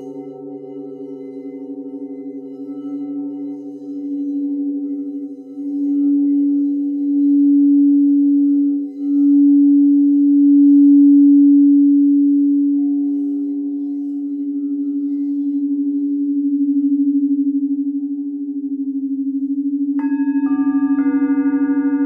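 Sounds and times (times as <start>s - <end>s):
singing bowls ringing: 0.0s - 22.0s.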